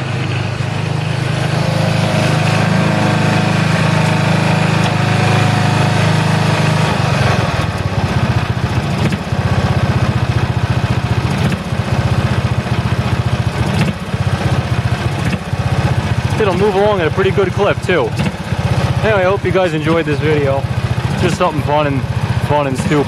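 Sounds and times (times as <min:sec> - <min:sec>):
riding mower engine running: 0:00.0 - 0:23.0.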